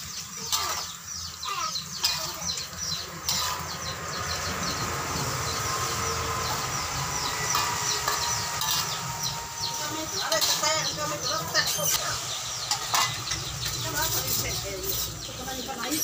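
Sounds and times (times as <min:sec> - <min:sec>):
food sizzling in a wok: 0:00.0 - 0:16.0
metal spatula scraping a pan: 0:00.4 - 0:01.0, 0:02.0 - 0:04.4, 0:05.6 - 0:16.0.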